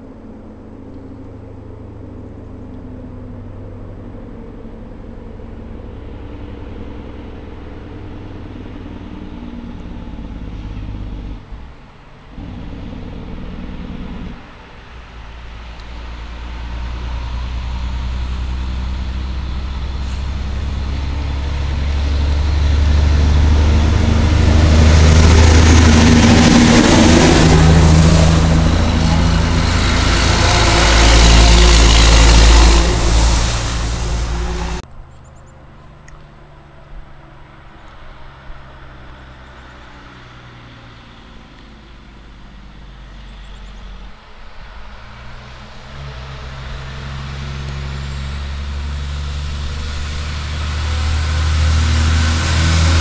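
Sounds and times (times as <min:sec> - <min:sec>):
truck diesel engine hum: 0:00.0 - 0:53.0
tyre noise on road: 0:00.0 - 0:53.0.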